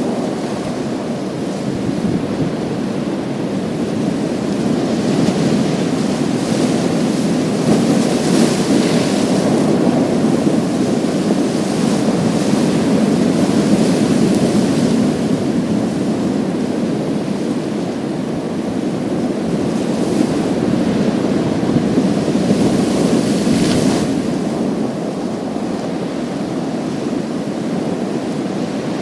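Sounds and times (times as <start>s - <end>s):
surf washing over pebbles: 0.0s - 29.0s.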